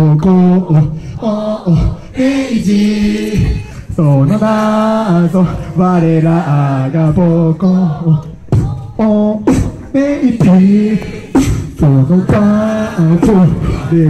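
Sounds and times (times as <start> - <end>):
beatboxing into a microphone: 0.0 - 14.0.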